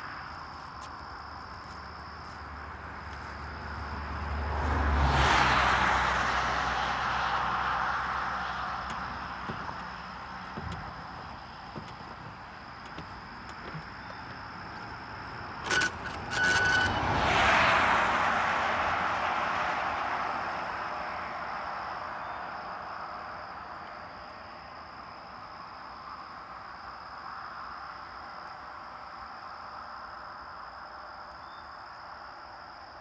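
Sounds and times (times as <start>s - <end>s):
car tyre and road noise: 0.0s - 33.0s.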